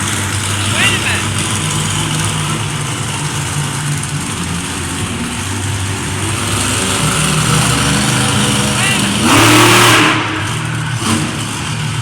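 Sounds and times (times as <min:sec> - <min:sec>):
monster truck engine roaring: 0:00.0 - 0:12.0.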